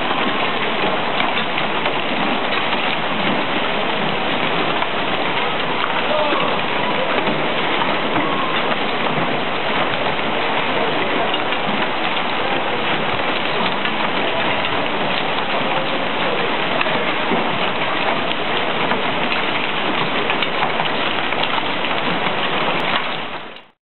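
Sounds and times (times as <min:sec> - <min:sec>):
hail and rain pelting: 0:00.0 - 0:23.8.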